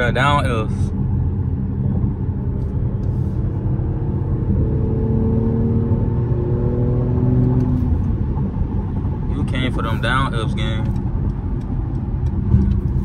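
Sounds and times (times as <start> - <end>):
car engine running: 0.0 - 13.0
road rumble: 0.0 - 13.0.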